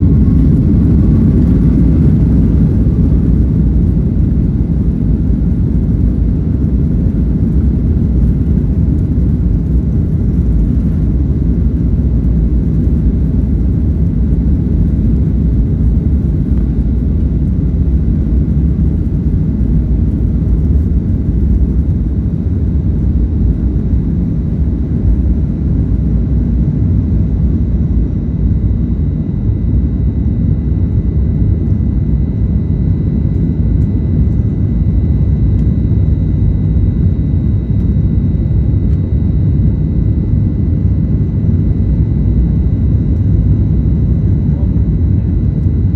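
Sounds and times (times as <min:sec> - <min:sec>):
jet engines at takeoff thrust: 0:00.0 - 0:45.9.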